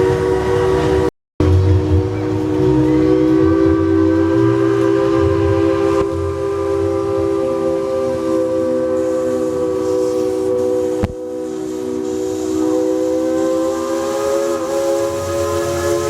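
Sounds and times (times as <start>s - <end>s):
steam locomotive chime whistle: 0.0s - 16.0s.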